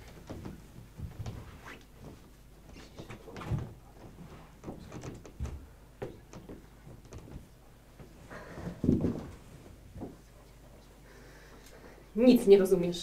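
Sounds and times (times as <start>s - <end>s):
faint knocks and thumps: 0.0s - 10.4s.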